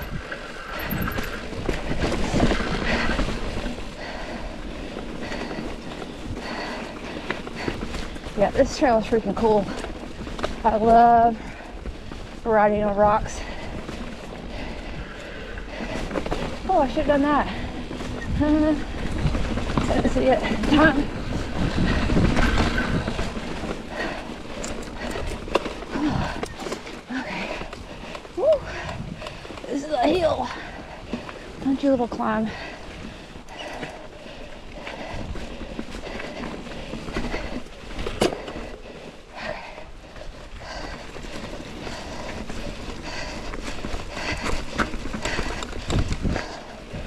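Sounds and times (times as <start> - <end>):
bike tyre noise on dirt: 0.0 - 47.0.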